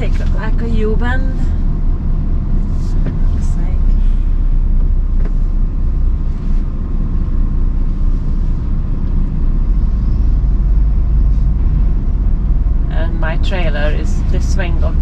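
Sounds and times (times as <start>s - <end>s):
lorry diesel engine rumble: 0.0s - 15.0s.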